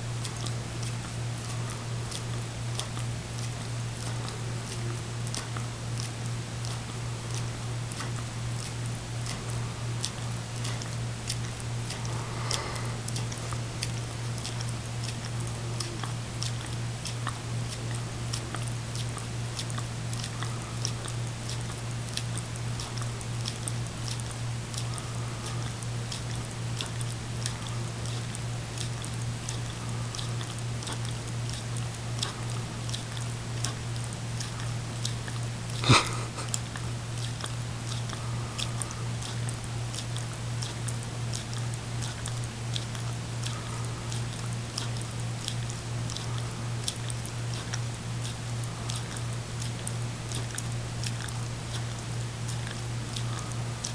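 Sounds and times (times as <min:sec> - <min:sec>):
steady low hum: 0:00.0 - 0:53.9
dog lapping wetly: 0:00.1 - 0:53.9.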